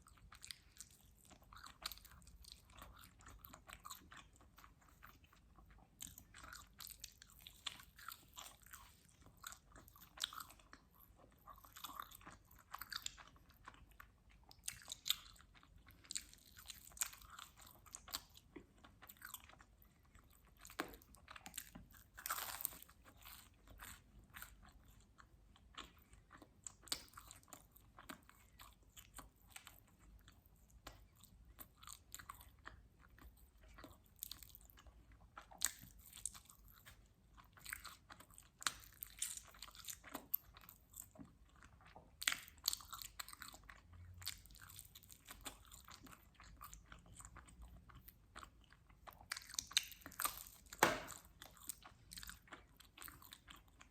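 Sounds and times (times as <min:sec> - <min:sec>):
chewing and biting crunches: 0:00.0 - 0:53.9.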